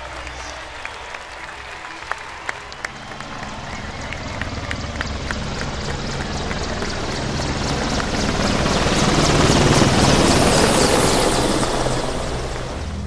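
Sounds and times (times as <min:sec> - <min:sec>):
helicopter engine noise: 0:00.0 - 0:13.0
helicopter rotor blades beating: 0:00.0 - 0:13.0.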